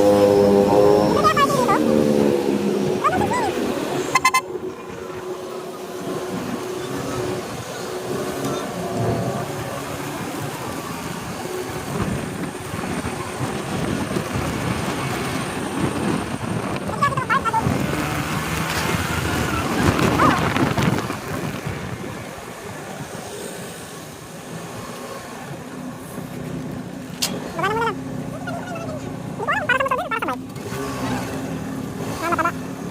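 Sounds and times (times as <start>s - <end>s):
wind rushing over microphone: 0.0s - 27.7s
motorcycle engine running: 0.0s - 32.9s.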